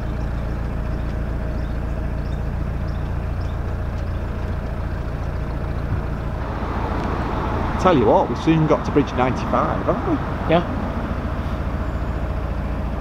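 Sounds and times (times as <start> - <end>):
boat diesel engine humming: 0.0 - 13.0.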